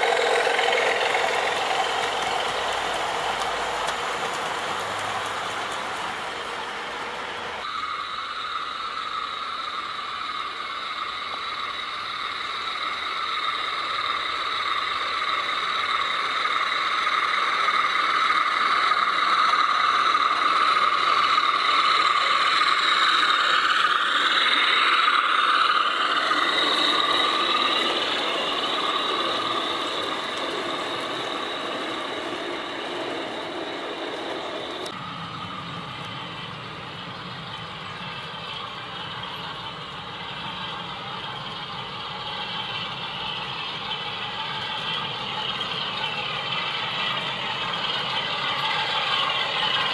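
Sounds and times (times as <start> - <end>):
model train motor whine: 0.0 - 49.9
wheels rolling on track: 0.0 - 49.9.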